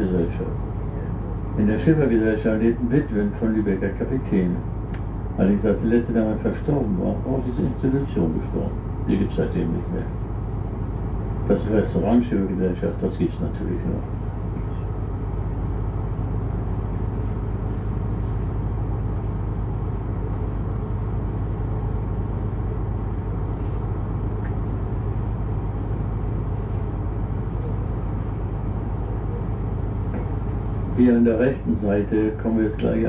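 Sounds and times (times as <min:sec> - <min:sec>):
boat engine drone: 0:00.0 - 0:33.0.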